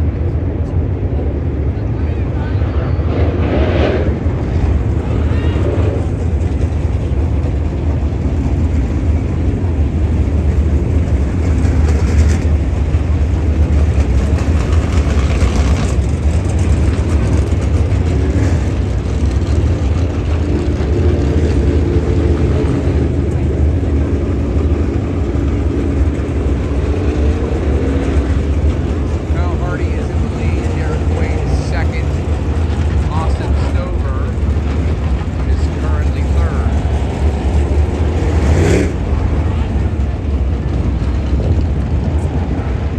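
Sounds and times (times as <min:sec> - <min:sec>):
race car engines rumbling: 0:00.0 - 0:42.9.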